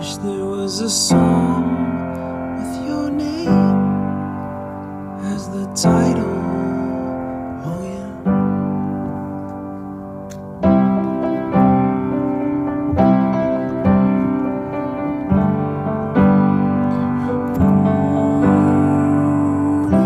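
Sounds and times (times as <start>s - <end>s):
piano chords: 0.0s - 20.0s.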